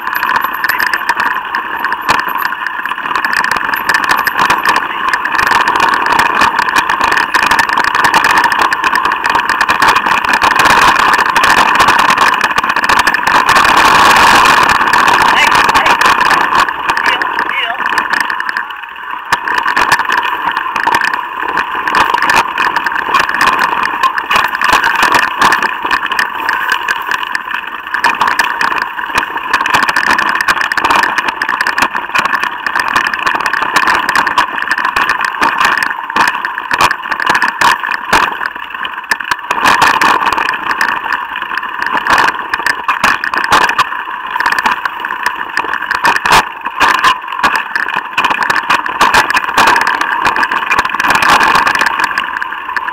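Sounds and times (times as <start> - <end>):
bike rattles and knocks: 0.0 - 52.9
mountain bike buzz: 0.0 - 52.9.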